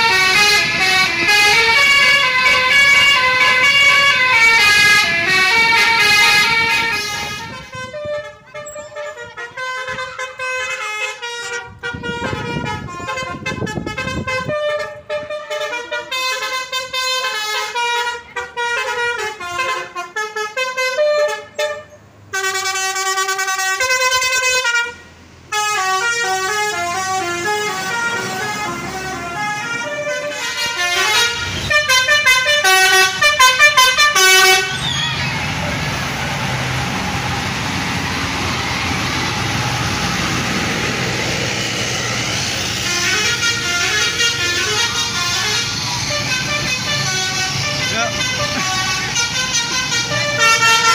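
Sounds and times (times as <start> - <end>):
musical bus air horns: 0.0 - 50.9.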